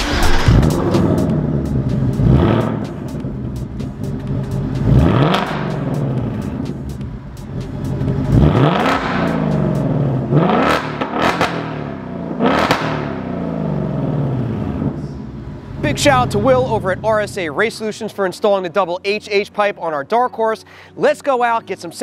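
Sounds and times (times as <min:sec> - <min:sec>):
car engine revving: 0:00.0 - 0:18.3.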